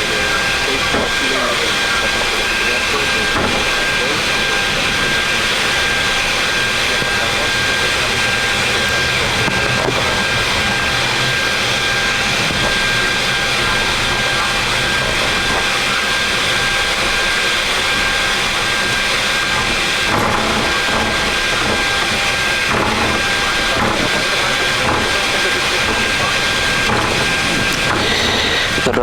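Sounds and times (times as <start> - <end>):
jet engines idling: 0.0 - 29.0
thin high whine: 0.0 - 29.0.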